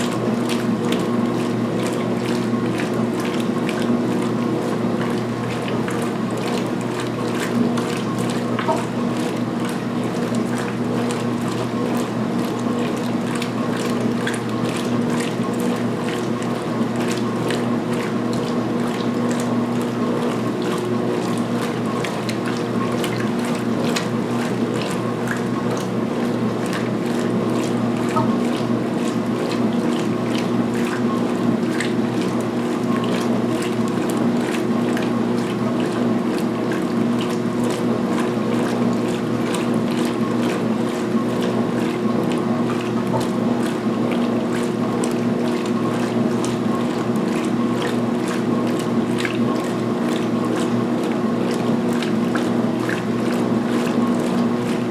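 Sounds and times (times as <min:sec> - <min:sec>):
washing machine agitating: 0:00.0 - 0:54.9
water splashing in washer: 0:00.0 - 0:54.9.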